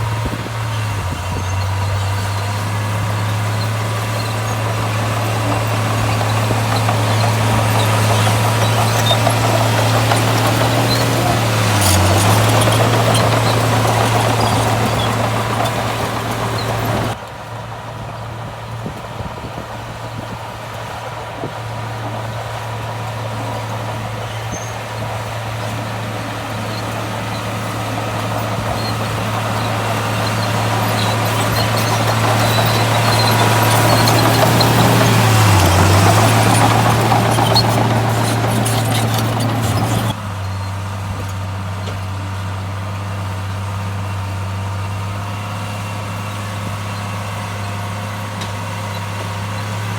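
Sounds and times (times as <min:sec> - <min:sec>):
diesel machinery engine hum: 0:00.0 - 0:49.9.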